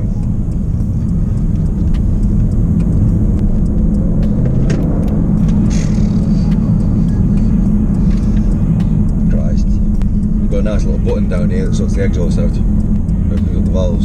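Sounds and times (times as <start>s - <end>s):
car engine and road noise drone: 0.0s - 14.0s.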